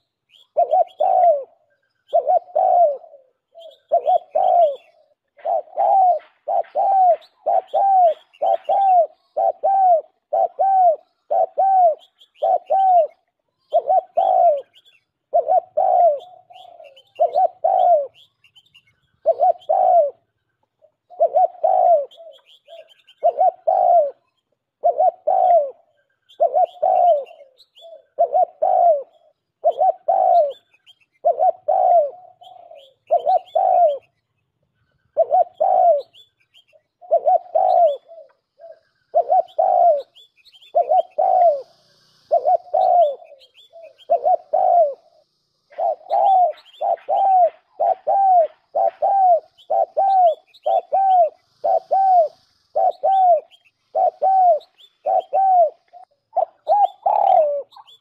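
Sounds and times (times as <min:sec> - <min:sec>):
pigeon cooing: 0:00.0 - 0:18.3, 0:19.2 - 0:34.1, 0:35.2 - 0:36.3, 0:36.9 - 0:58.0.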